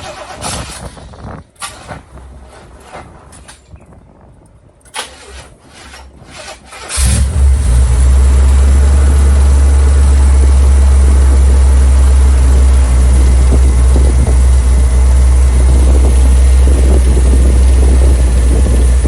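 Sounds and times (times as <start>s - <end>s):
car engine starting and idling: 0.0s - 3.6s, 6.3s - 19.0s.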